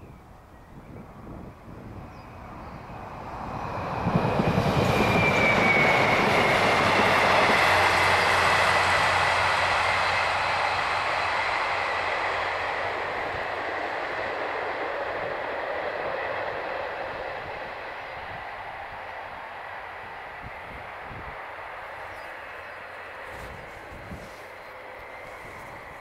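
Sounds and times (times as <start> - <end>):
diesel train passing: 0.2 - 26.0.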